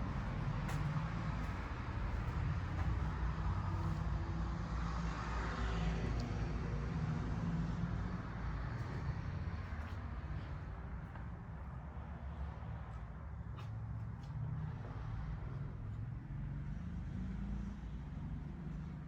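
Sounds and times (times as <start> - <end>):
low traffic rumble: 0.0 - 19.0
vehicle passing: 0.0 - 19.0.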